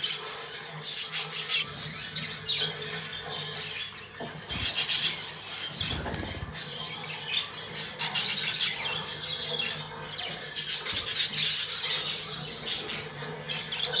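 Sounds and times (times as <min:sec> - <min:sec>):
budgerigars chirping and chattering: 0:00.0 - 0:14.0.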